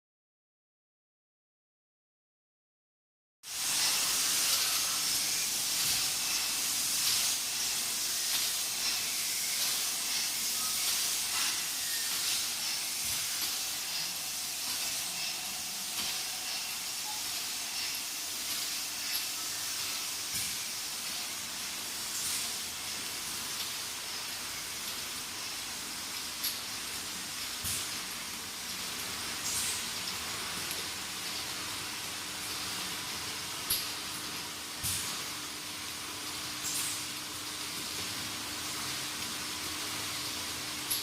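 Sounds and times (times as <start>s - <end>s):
bottle filling machine hissing: 3.5s - 41.0s.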